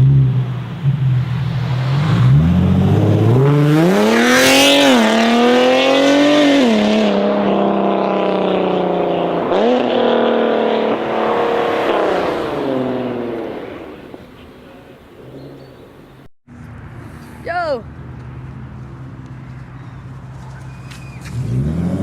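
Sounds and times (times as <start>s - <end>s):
loud car engine revving: 0.0s - 16.0s, 20.4s - 22.0s.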